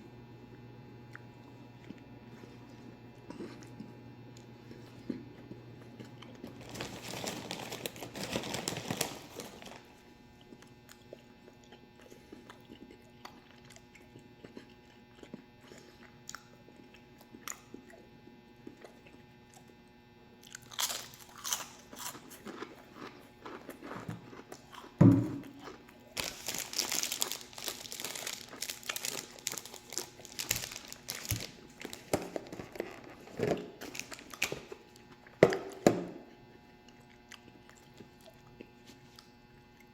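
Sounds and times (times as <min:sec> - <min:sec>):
person chewing crunchy food: 0:00.5 - 0:39.9.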